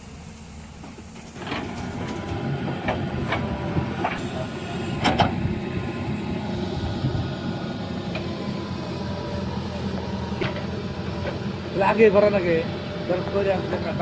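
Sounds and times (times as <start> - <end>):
heavy machinery engine running: 1.3 - 14.0.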